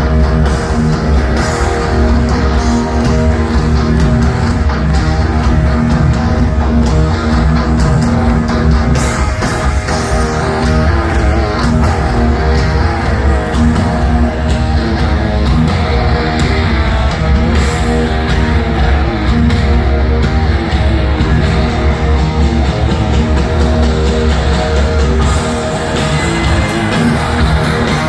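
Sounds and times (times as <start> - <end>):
heavy rock music: 0.0 - 28.0.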